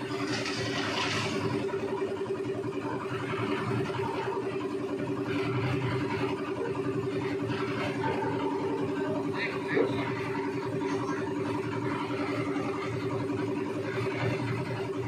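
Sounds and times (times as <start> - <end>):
diesel concrete mixer running: 0.0 - 15.0.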